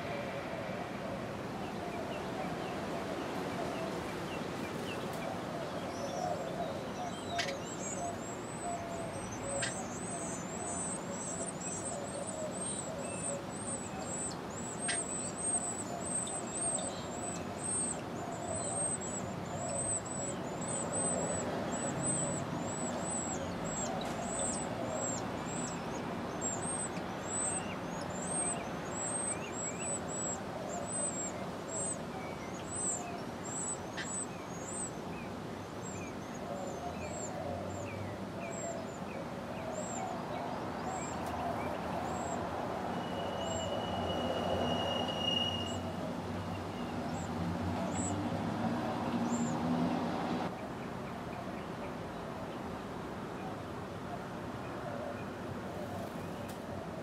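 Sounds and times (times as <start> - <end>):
nestlings begging with high chirps: 4.1 - 51.4.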